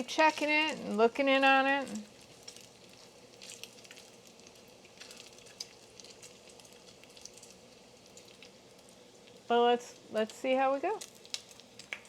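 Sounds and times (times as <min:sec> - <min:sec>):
bacon sizzling in a pan: 0:00.0 - 0:12.0
small pops and crackles: 0:00.0 - 0:12.0.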